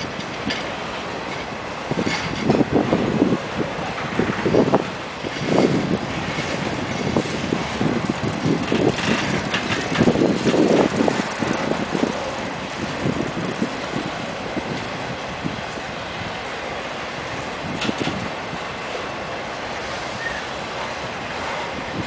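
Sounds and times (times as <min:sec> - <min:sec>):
train clanks and knocks: 0:00.0 - 0:22.0
train wheels rumbling on rails: 0:00.0 - 0:22.0.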